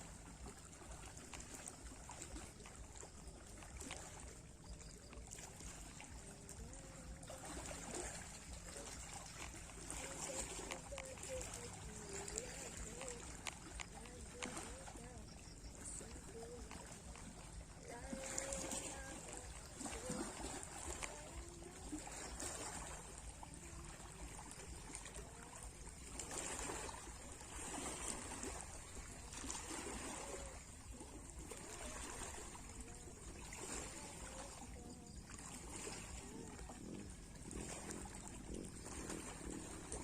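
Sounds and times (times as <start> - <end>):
small waves lapping: 0.0 - 40.0.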